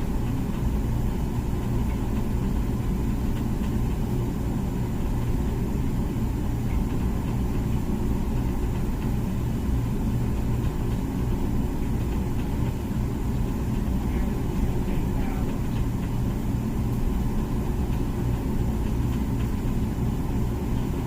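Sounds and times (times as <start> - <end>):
dishwasher humming: 0.0 - 21.0.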